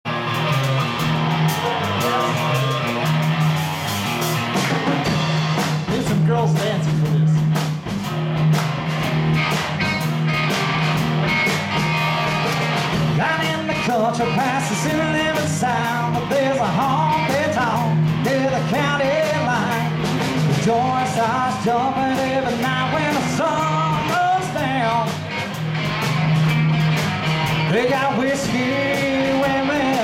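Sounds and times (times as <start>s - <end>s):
bass guitar line: 0.0s - 30.0s
drum kit beat: 0.1s - 30.0s
electric guitars: 0.1s - 30.0s.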